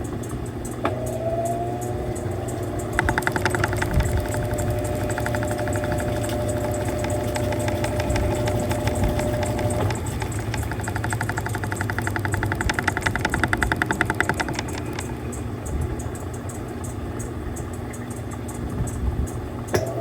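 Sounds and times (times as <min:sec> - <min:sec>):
steady whine: 0:00.0 - 0:20.0
washing machine motor hum: 0:00.0 - 0:20.0
washing machine rattling: 0:00.0 - 0:20.0.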